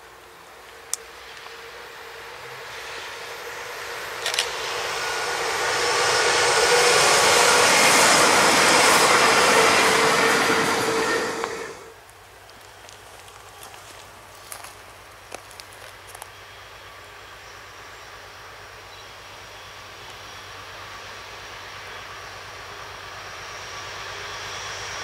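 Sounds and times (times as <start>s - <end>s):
electric train passing at speed: 0.0s - 25.0s.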